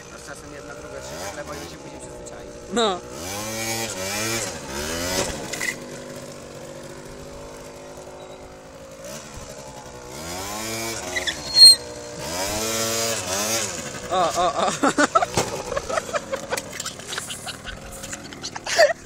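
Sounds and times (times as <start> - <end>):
scooter engine revving: 0.0 - 19.0.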